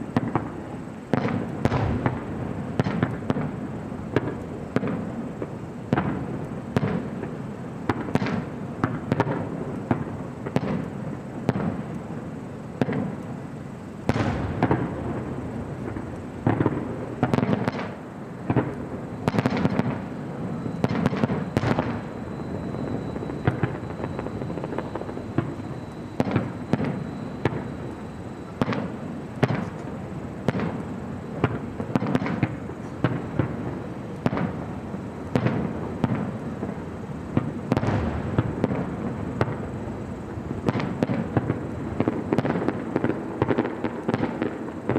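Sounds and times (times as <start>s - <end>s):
continuous rumble: 0.0s - 44.9s
fireworks bursting: 0.0s - 44.9s.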